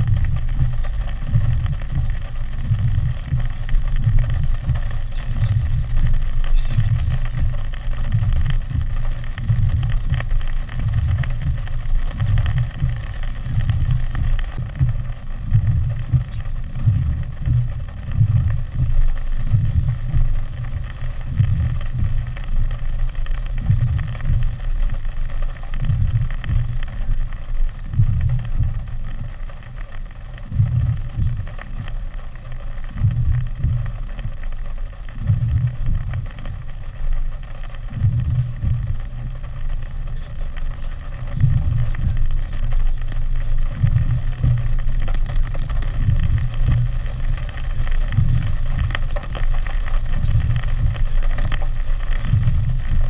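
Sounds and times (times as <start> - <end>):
heavy rain hissing: 0.0 - 53.0
wind buffeting microphone: 0.0 - 53.0.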